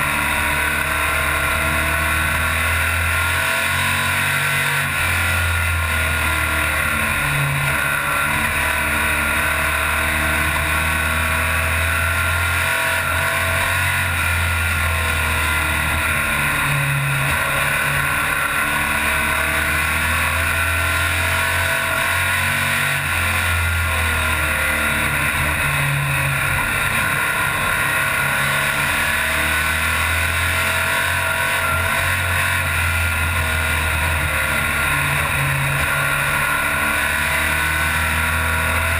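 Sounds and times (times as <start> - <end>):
race car engine revving: 0.0 - 38.9
road and wind noise: 0.0 - 38.9.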